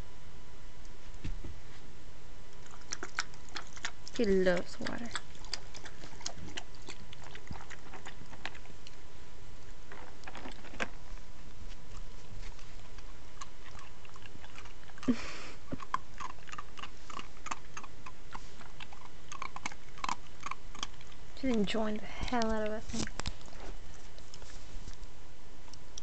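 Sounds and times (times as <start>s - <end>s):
dog crunching kibble: 2.5s - 26.0s.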